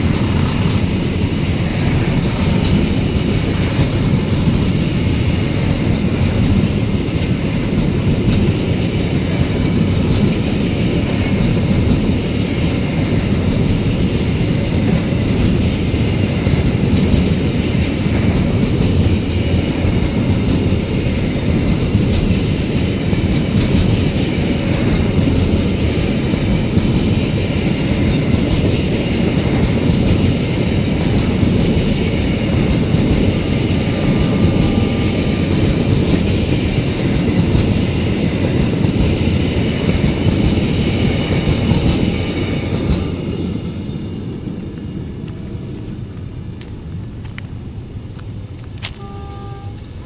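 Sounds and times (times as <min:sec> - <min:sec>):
freight train wheels rumbling on rails: 0:00.0 - 0:50.0.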